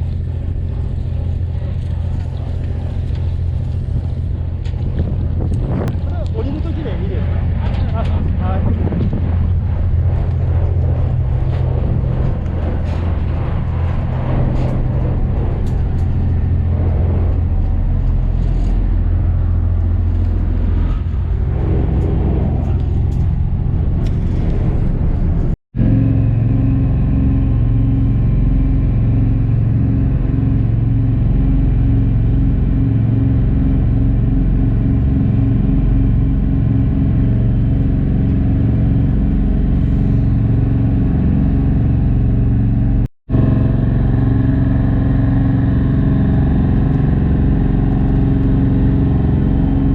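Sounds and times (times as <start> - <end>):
ferry diesel engine rumbling: 0.0 - 49.9.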